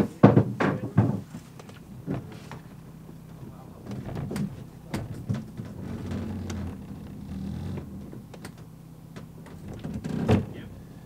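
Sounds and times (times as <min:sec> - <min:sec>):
low engine hum: 0:01.3 - 0:11.0.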